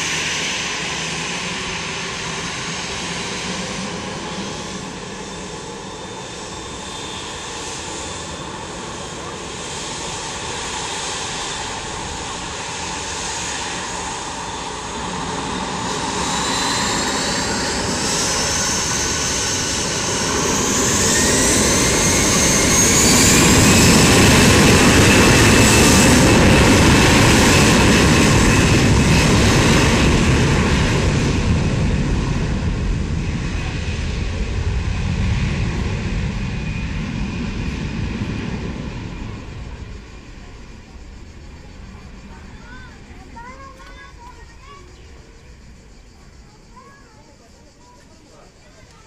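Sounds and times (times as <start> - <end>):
airliner rumbling down runway: 0.0 - 49.0
jet engines spooling up: 0.0 - 49.0.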